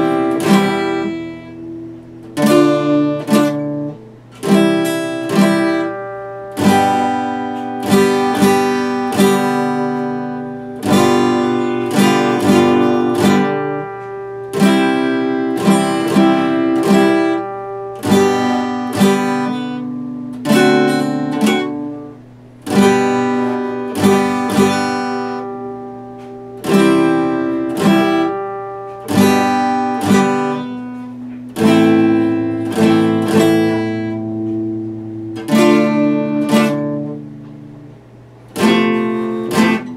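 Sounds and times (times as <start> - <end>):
acoustic guitar chords and notes: 0.0 - 39.9.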